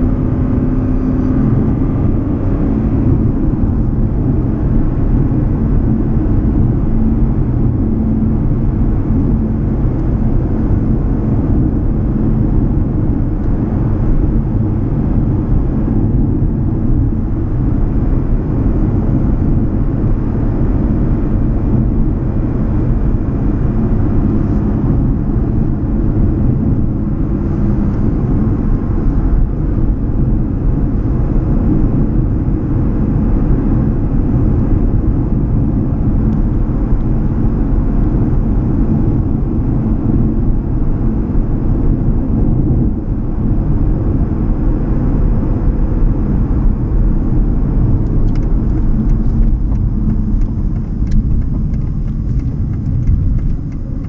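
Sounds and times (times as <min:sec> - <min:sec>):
car engine cruising: 0:00.0 - 0:54.0
tyre and road noise: 0:00.0 - 0:54.0.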